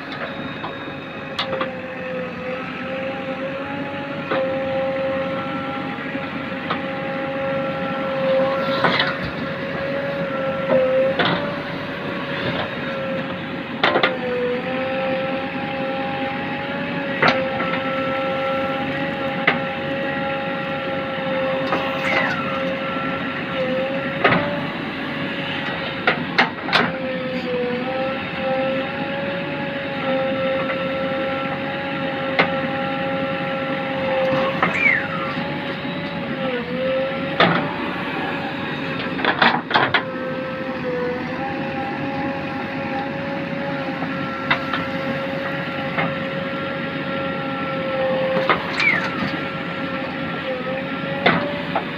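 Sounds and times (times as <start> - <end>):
backhoe loader engine whine: 0.0 - 51.9.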